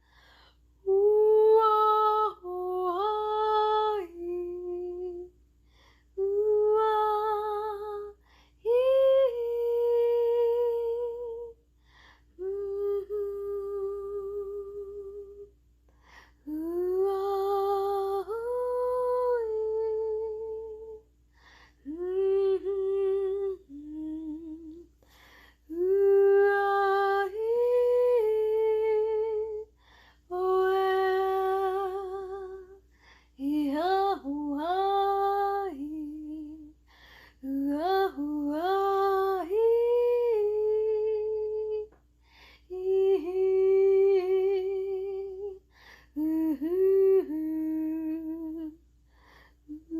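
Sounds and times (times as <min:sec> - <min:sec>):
faint steady tone: 0:00.0 - 0:49.9
woman singing wordlessly: 0:00.8 - 0:05.4, 0:06.2 - 0:11.6, 0:12.4 - 0:15.5, 0:16.4 - 0:21.0, 0:21.8 - 0:25.0, 0:25.6 - 0:42.0, 0:42.7 - 0:48.8, 0:49.7 - 0:49.9.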